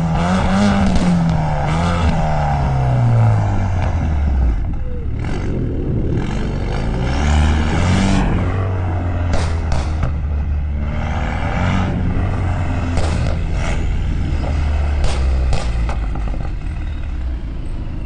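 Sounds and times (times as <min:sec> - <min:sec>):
car engine driving: 0:00.0 - 0:18.0.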